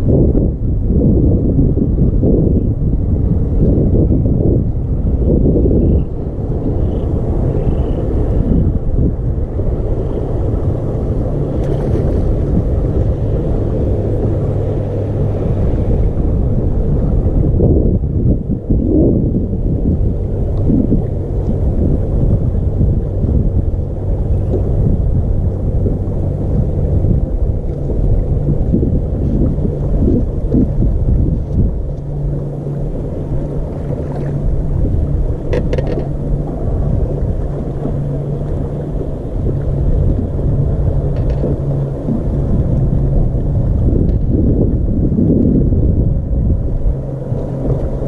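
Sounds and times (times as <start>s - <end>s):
low steady hum: 0.0s - 48.0s
wind buffeting microphone: 0.0s - 48.0s.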